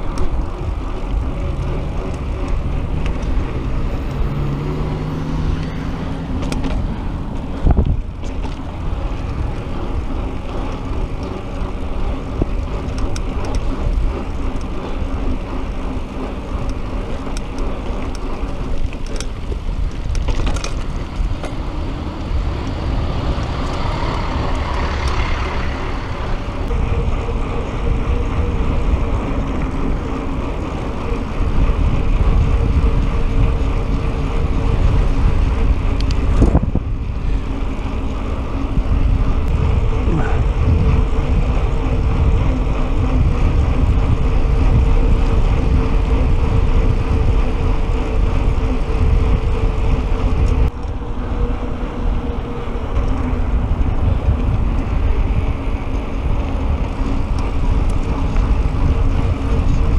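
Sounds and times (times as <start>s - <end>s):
bicycle tyres humming on asphalt: 0.0s - 59.9s
wind rumble on microphone: 0.0s - 59.9s.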